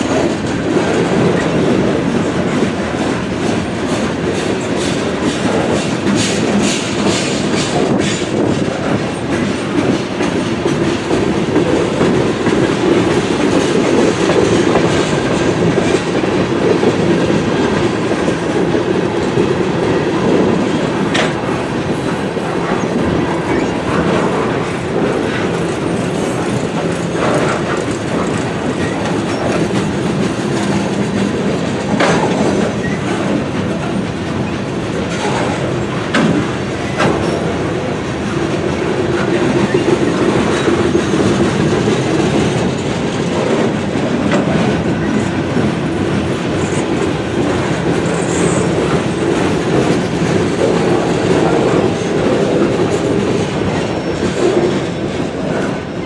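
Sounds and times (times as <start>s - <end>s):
steel wheels rolling on rail: 0.0s - 56.0s
wheels clicking over rail joints: 0.0s - 56.0s.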